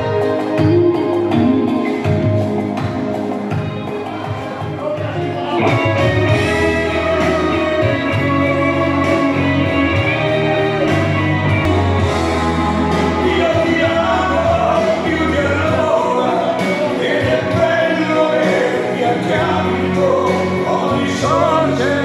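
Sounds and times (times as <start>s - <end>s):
guitar: 0.0s - 22.0s
steady bass line: 0.0s - 22.0s
person singing: 4.1s - 22.0s.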